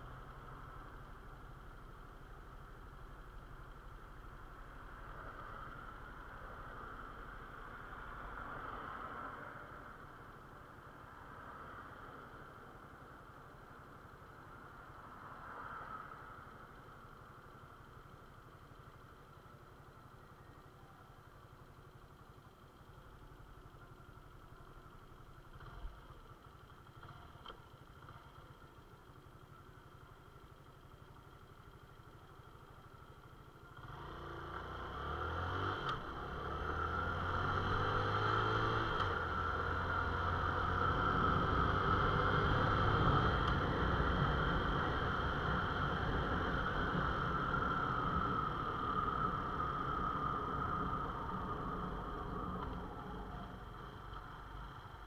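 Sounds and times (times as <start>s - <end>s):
motorcycle engine idling and accelerating: 0.0s - 55.0s.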